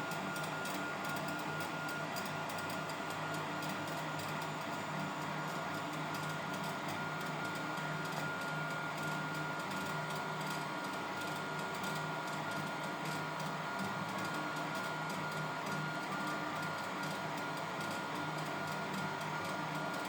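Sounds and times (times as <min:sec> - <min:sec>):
printer motor tones: 0:00.0 - 0:20.0.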